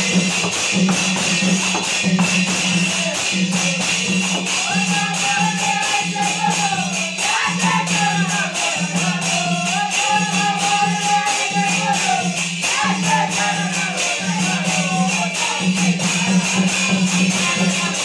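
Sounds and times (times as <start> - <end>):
dhol drums beating: 0.0 - 18.0
men singing: 0.0 - 18.0
metallic jingle: 0.0 - 18.0.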